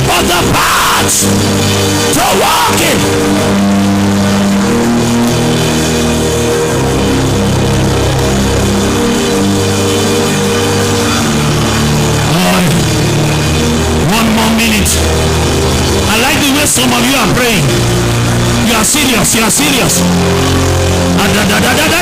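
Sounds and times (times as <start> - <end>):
background music with bass line: 0.0 - 22.0.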